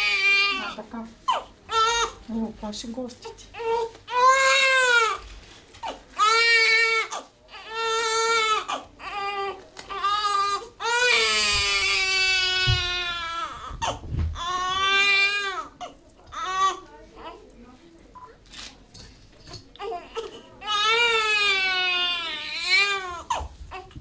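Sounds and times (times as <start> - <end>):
newborn baby crying: 0.0 - 2.2, 3.2 - 5.2, 5.8 - 17.4, 19.8 - 24.0.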